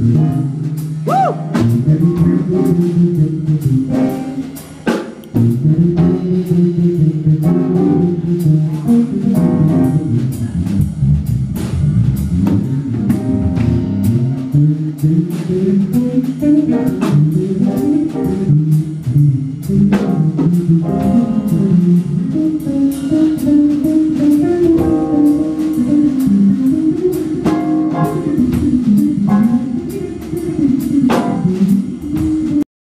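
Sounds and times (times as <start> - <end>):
live jazz band playing: 0.0 - 32.6.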